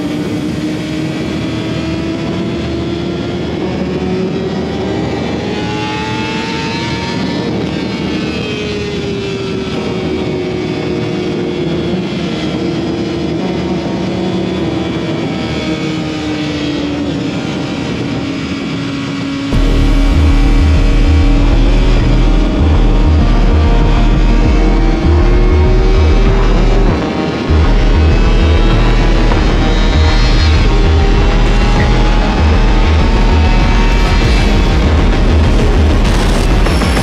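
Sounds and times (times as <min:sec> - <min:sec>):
motorcycle engine at high revs: 0:00.0 - 0:37.0.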